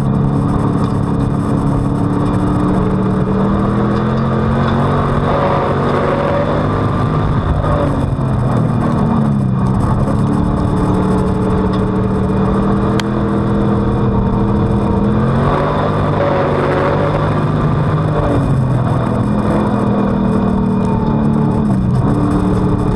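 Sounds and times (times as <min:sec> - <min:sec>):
race car engine: 0:00.0 - 0:22.9.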